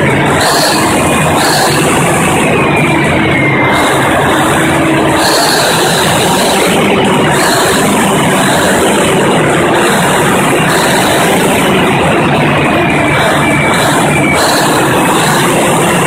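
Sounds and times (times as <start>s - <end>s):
diesel generator engine running: 0.0s - 16.0s.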